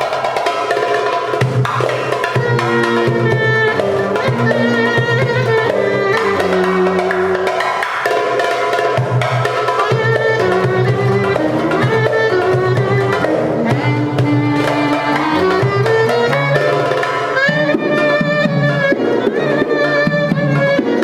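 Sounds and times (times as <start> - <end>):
hand drum rhythm: 0.0 - 21.0
ornamented instrumental melody: 0.0 - 21.0.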